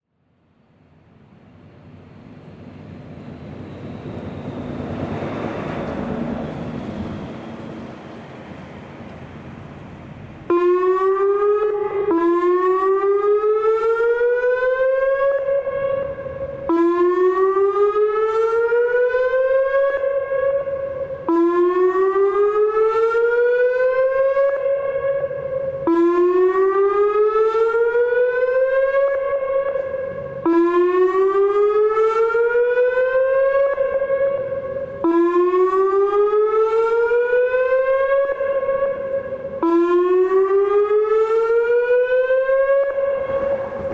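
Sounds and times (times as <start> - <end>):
warning siren whooping: 2.0 - 8.7, 10.4 - 43.9.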